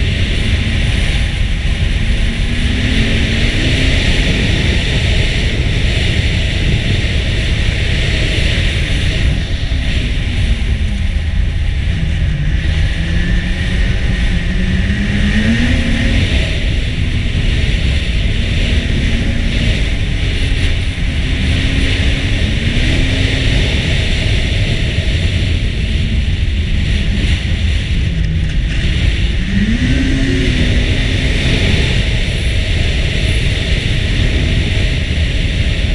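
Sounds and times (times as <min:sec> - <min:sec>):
snowmobile engine accelerating: 0:00.0 - 0:35.9
wind rush on microphone: 0:00.0 - 0:35.9.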